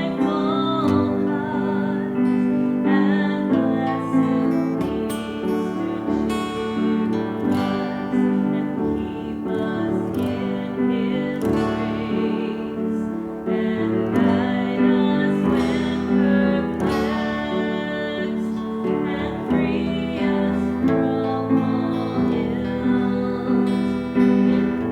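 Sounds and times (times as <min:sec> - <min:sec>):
acoustic guitar chords strummed: 0:00.0 - 0:24.9.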